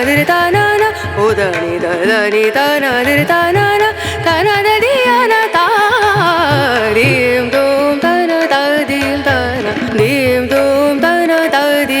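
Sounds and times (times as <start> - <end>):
hand drum percussion: 0.0 - 12.0.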